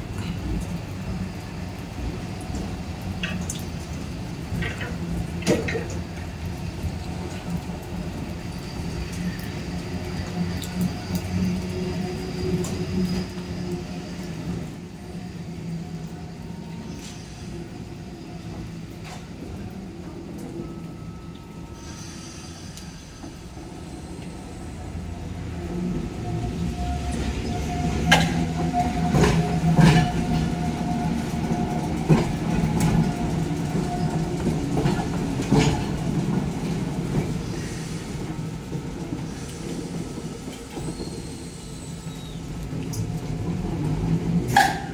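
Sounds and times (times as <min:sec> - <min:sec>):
tram rumbling on rails: 0:00.0 - 0:44.9.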